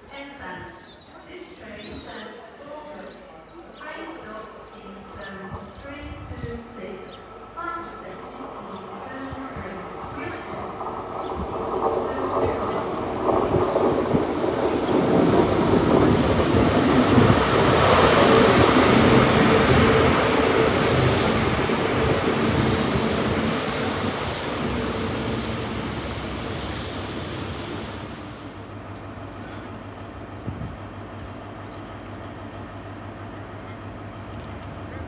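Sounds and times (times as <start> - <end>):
diesel train passing at speed: 3.7 - 35.0.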